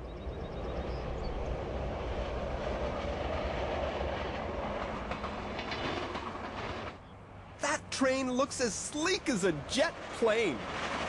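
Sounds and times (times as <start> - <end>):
railcar rumbling along track: 0.0 - 11.0.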